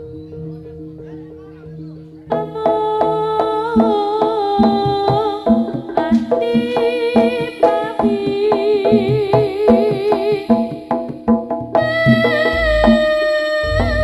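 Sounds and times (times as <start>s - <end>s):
gamelan melody: 0.0s - 10.0s, 10.6s - 14.0s
regular drum strokes: 2.3s - 14.0s.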